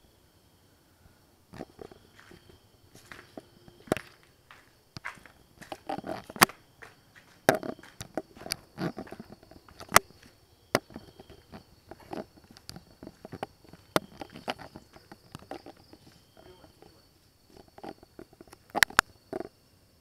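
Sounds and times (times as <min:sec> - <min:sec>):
footsteps: 0:01.5 - 0:19.5.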